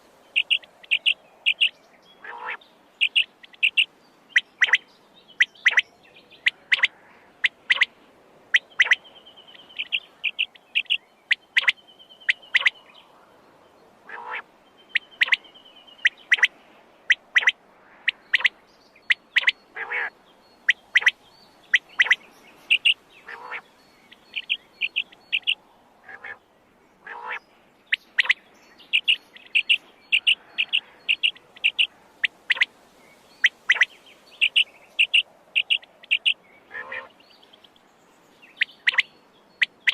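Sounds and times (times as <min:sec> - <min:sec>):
quail calling: 0:00.0 - 0:04.8, 0:05.4 - 0:07.9, 0:08.5 - 0:09.0, 0:09.6 - 0:12.8, 0:14.1 - 0:15.4, 0:16.0 - 0:16.5, 0:17.1 - 0:26.4, 0:27.0 - 0:32.7, 0:33.4 - 0:37.8, 0:38.5 - 0:39.9
quail trills: 0:00.0 - 0:04.8, 0:05.4 - 0:07.9, 0:08.5 - 0:12.8, 0:14.1 - 0:16.5, 0:17.1 - 0:26.4, 0:27.0 - 0:32.7, 0:33.4 - 0:37.8, 0:38.5 - 0:39.9.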